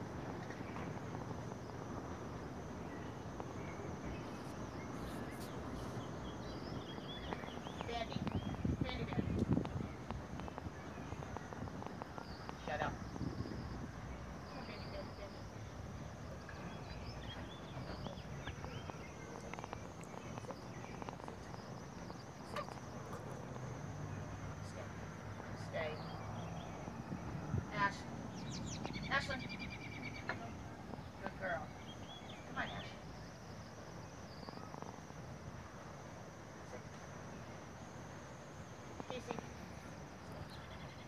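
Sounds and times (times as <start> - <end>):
low rumble and hiss: 0.0 - 41.0
faint bird chirps: 2.8 - 35.8.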